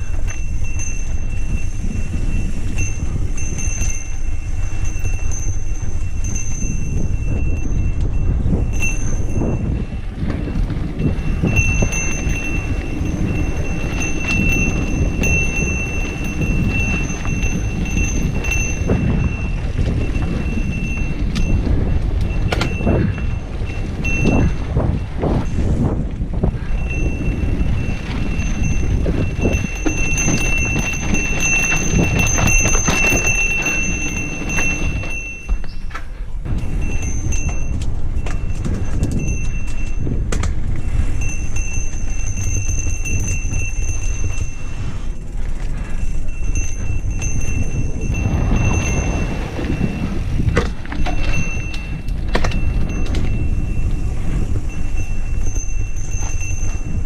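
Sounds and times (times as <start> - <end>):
bike knocks and rattles: 0.0 - 57.0
wind rumble on microphone: 0.0 - 57.0.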